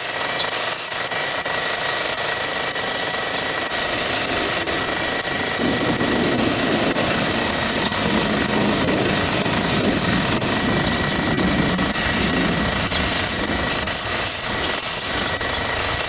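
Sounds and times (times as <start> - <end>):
belt grinder whining: 0.0 - 16.0
wood rasping on abrasive belt: 0.0 - 16.0.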